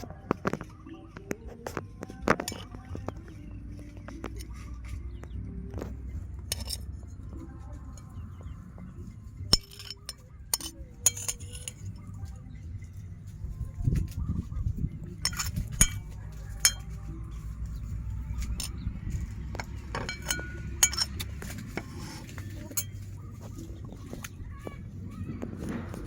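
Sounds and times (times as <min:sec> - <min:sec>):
dishes and utensils clinking: 0:00.0 - 0:24.6.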